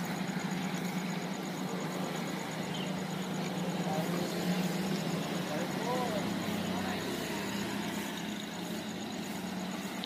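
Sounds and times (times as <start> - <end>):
motorbikes passing: 0.0 - 10.0.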